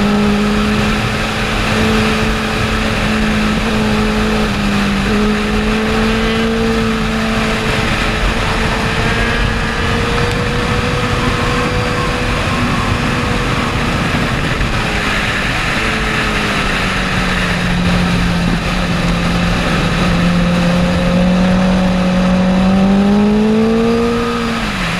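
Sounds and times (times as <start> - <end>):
motorbike engine revving high: 0.0 - 24.9
wind rushing over microphone: 0.0 - 24.9.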